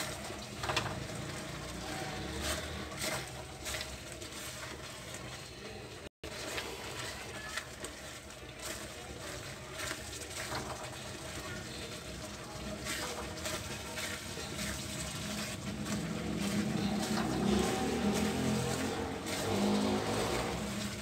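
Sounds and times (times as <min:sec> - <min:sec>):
food sizzling in a pan: 0:00.0 - 0:21.0
spatula scraping a pan: 0:00.0 - 0:21.0.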